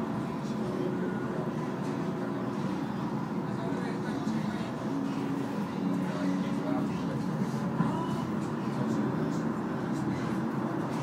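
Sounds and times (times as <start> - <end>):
tram rumbling from inside: 0.0 - 11.0.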